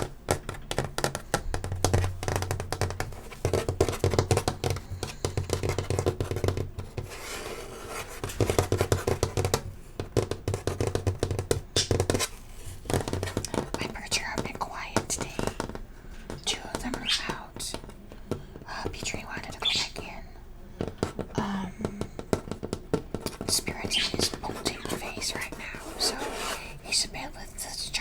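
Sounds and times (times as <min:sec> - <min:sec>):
chalk scratching on chalkboard: 0:00.0 - 0:18.0, 0:22.2 - 0:28.0.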